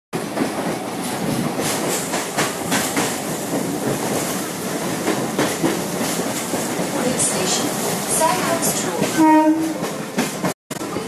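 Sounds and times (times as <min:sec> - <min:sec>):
train rumble inside carriage: 0:00.2 - 0:11.0.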